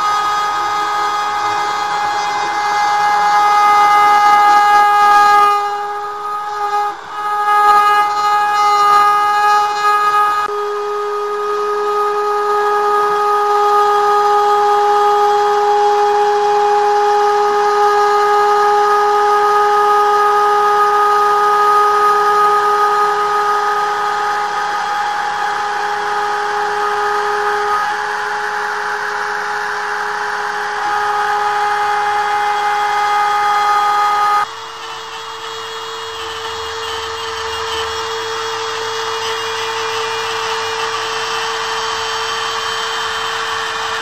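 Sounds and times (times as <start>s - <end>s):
router bit cutting hiss: 0.0s - 44.0s
router spindle whine: 0.0s - 44.0s.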